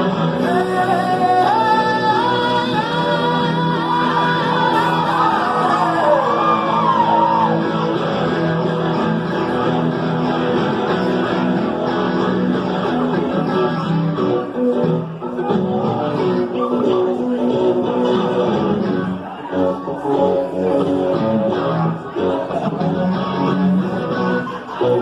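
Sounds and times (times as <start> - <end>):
rock guitars playing: 0.0 - 25.0.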